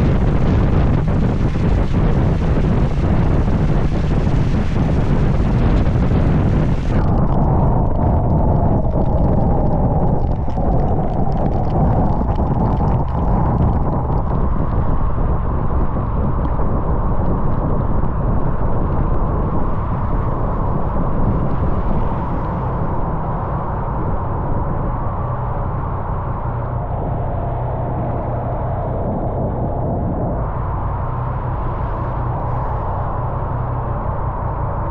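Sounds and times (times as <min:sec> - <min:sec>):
wind rumble on microphone: 0:00.0 - 0:34.9.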